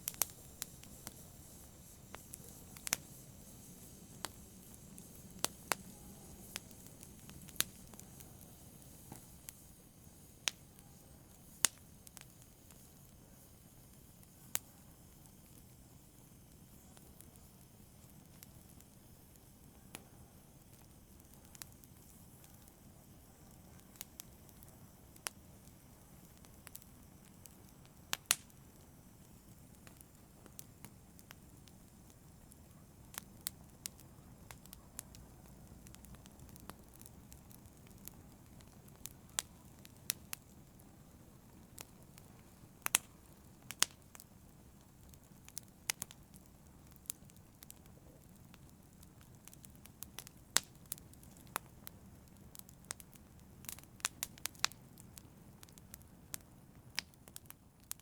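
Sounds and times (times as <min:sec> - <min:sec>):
fire hissing: 0:00.0 - 0:58.0
fire popping and snapping: 0:00.0 - 0:58.0.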